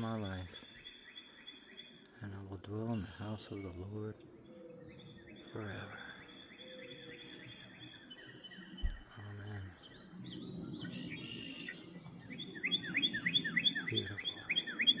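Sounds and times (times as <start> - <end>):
birds singing and chirping: 0.0 - 15.0.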